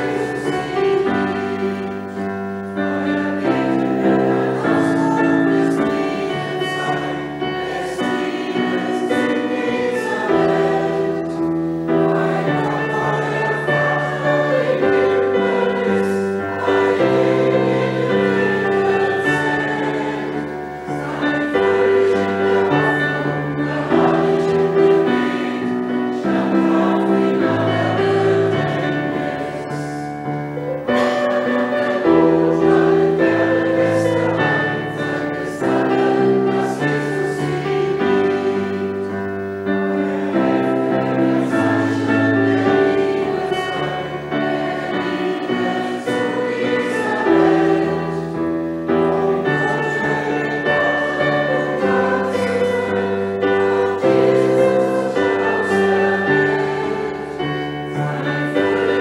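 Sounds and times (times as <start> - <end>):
electronic keyboard chords: 0.0 - 59.0
voices singing a hymn: 0.0 - 59.0.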